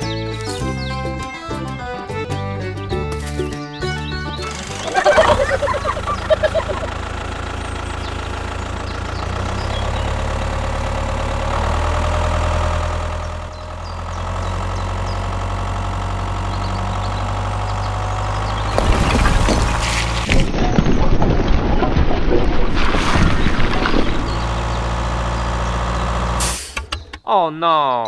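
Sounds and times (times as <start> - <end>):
tractor engine droning: 0.0 - 27.2.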